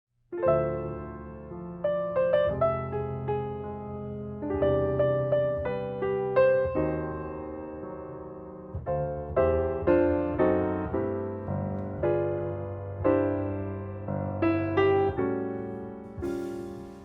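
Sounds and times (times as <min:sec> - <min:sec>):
piano chords ringing: 0:00.3 - 0:17.0.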